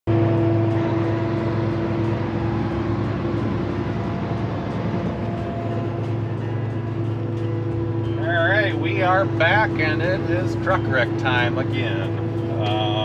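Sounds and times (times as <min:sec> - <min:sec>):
diesel truck engine droning: 0:00.0 - 0:13.0
road and tyre noise: 0:00.0 - 0:13.0.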